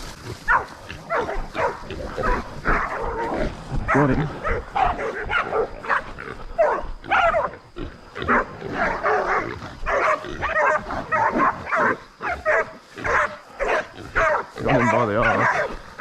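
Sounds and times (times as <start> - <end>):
dogs barking: 0.3 - 16.0
pig squealing: 0.3 - 16.0.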